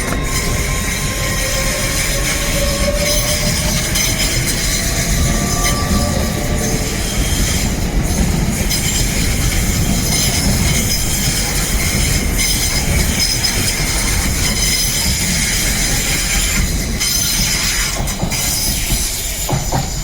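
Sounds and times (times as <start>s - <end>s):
train rumbling: 0.0s - 20.0s
wheels squealing on rails: 0.0s - 20.0s.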